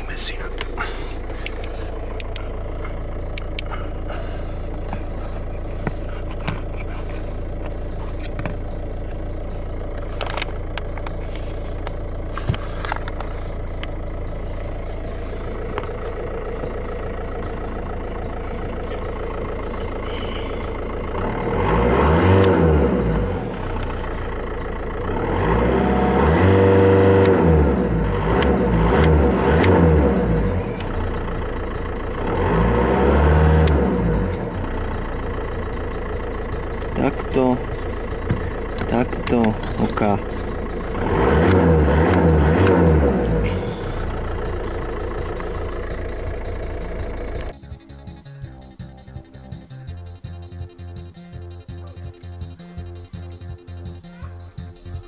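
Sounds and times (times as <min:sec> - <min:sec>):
motor vehicles passing by: 0:00.0 - 0:55.0
steady low hum: 0:00.0 - 0:55.0.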